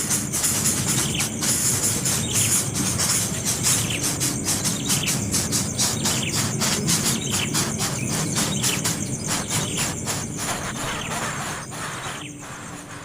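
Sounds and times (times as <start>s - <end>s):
baby bird chirping: 0.8s - 13.0s.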